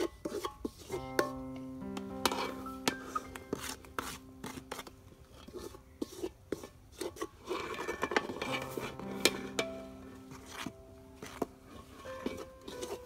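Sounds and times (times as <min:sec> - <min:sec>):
food being scraped: 0:00.0 - 0:01.4, 0:02.0 - 0:13.0.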